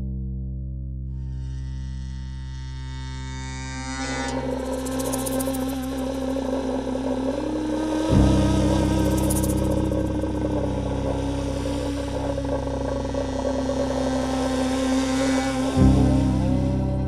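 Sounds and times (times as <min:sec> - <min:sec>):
deep steady low drone: 0:00.0 - 0:17.0.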